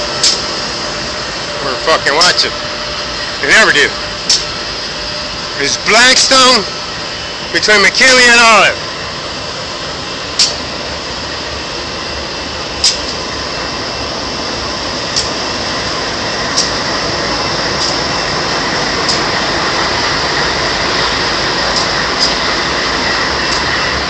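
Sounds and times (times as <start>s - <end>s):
sharp clicks of train wheels: 0.0s - 24.0s
train rumbling by: 0.0s - 24.0s.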